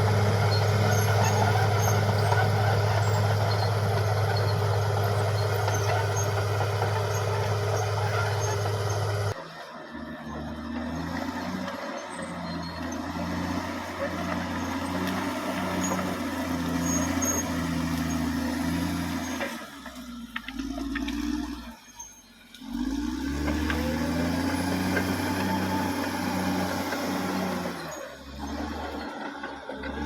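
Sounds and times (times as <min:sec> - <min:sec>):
bulldozer diesel engine: 0:00.0 - 0:30.0.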